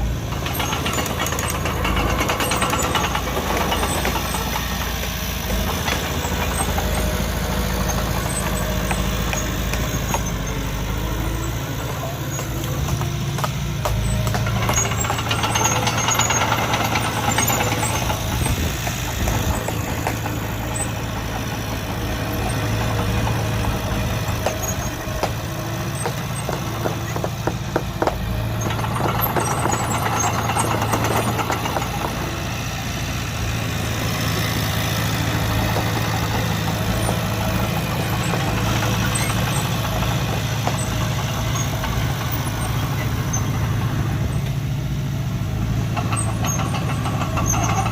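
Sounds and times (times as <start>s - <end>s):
diesel earthmoving machinery: 0.0s - 47.9s.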